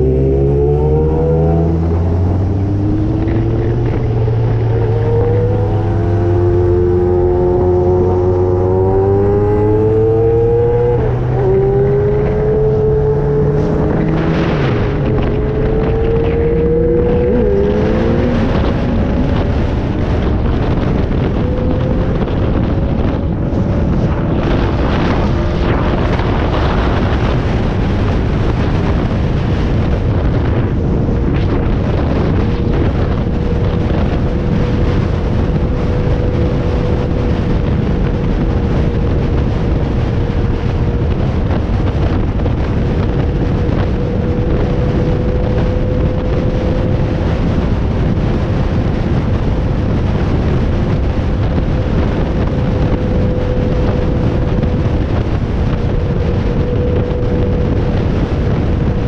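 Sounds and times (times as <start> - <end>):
vehicle engine running: 0.0 - 59.0
wind buffeting microphone: 0.0 - 59.0.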